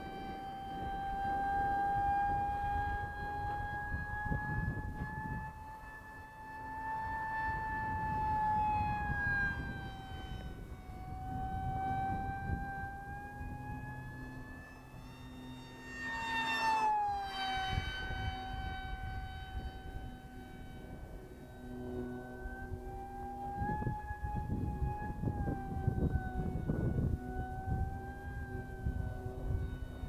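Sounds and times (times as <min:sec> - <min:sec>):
model jet fan motor whining: 0:00.0 - 0:30.0.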